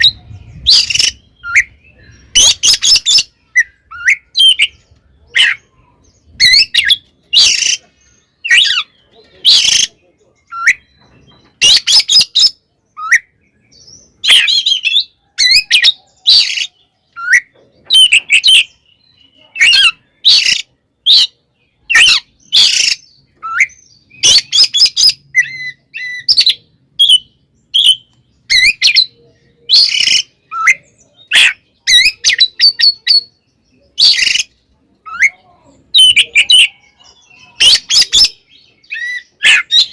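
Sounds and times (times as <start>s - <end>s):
songbird whistles and chatter: 0.0s - 39.9s.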